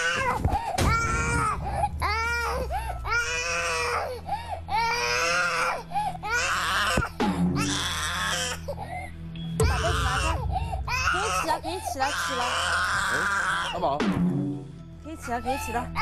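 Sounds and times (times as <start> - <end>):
boy crying and wailing: 0.0 - 8.8, 9.6 - 13.8.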